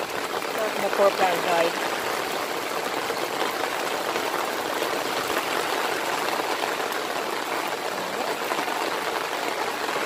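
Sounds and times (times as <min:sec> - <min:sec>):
rain on tiled floor: 0:00.0 - 0:10.0.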